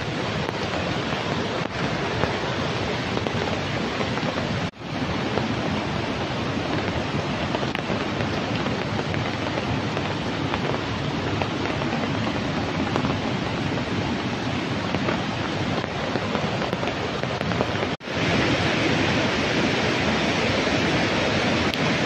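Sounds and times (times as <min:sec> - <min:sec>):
river roaring over rocks: 0:00.0 - 0:22.0.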